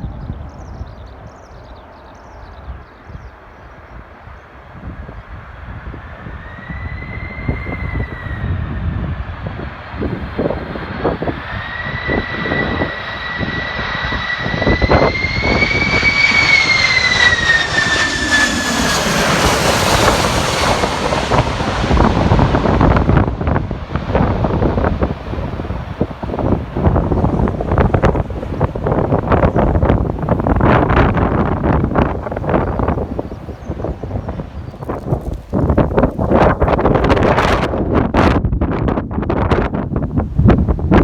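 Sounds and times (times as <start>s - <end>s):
jet airliner engine whine: 0.0s - 38.6s
wind buffeting microphone: 0.0s - 41.0s
jet engine rush: 4.6s - 38.4s.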